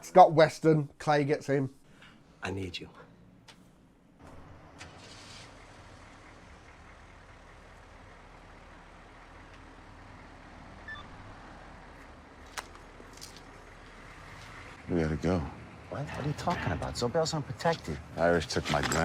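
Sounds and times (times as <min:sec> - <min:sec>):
faint vehicle engine running: 0:02.0 - 0:19.0.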